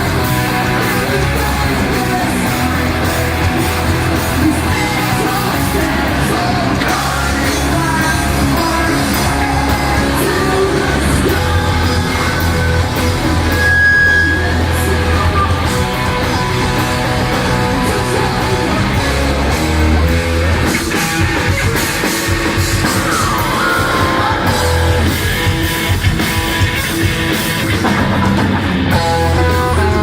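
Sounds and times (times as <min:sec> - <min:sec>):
rock band playing live: 0:00.0 - 0:30.0.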